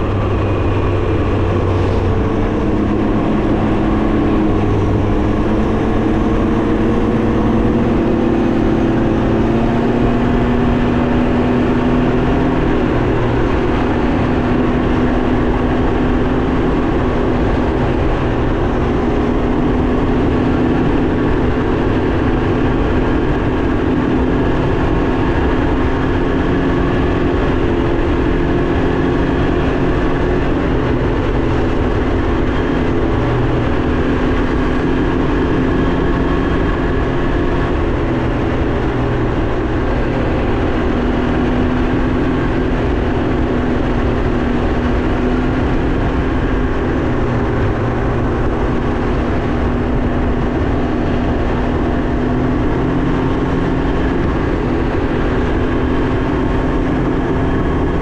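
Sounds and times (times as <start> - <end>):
motorcycle engine cruising: 0.0 - 58.0
road noise: 0.0 - 58.0
wind noise: 0.0 - 58.0.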